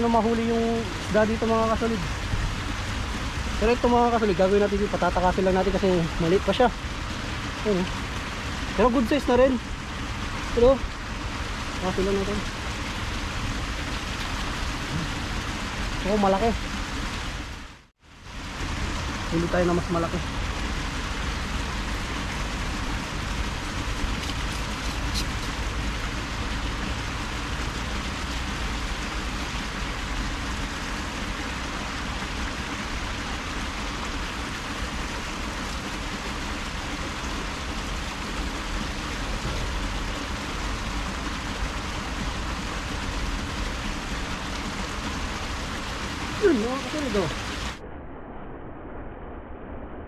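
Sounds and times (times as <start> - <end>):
flowing canal water: 0.0 - 47.8.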